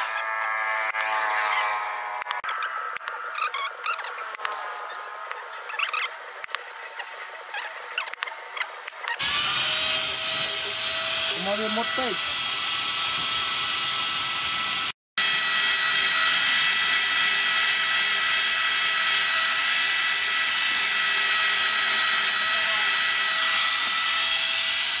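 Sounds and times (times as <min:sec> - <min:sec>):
angle grinder grinding steel: 0:00.0 - 0:25.0.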